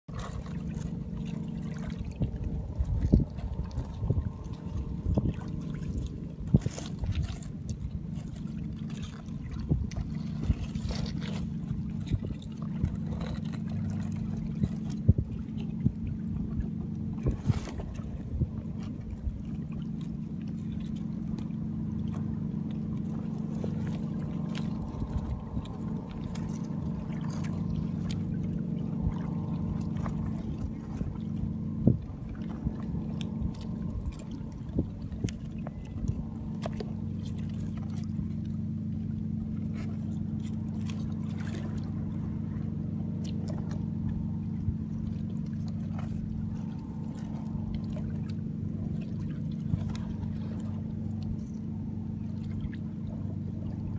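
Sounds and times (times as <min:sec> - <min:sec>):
low engine drone: 0:00.1 - 0:53.9.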